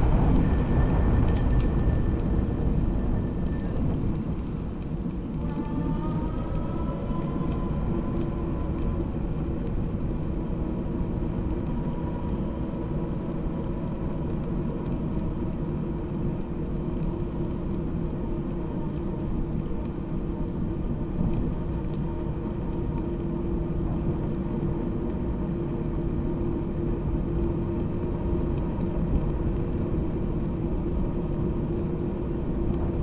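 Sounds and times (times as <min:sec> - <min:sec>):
wind rumble: 0:00.0 - 0:33.0.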